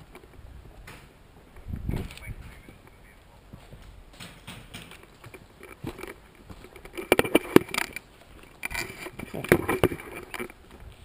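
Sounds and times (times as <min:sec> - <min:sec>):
footsteps on rough ground: 0:00.0 - 0:11.0
gear rattling and rustling: 0:01.9 - 0:11.0.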